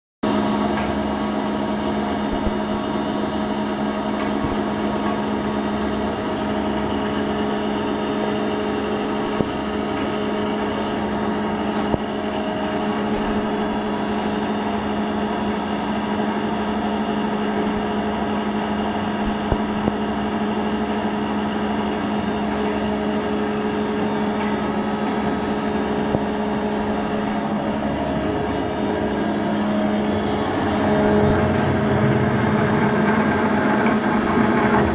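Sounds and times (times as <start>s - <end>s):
drilling machine hum: 0.3s - 34.9s.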